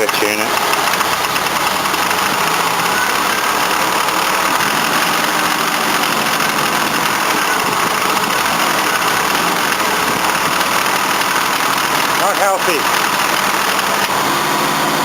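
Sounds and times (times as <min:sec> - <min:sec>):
car engine idling: 0:00.0 - 0:15.0
knocking compressor: 0:00.0 - 0:15.0.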